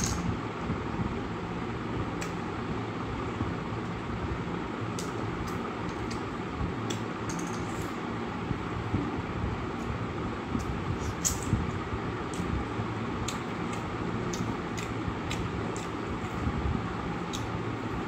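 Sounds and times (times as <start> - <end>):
mechanical room hum: 0.0 - 18.0.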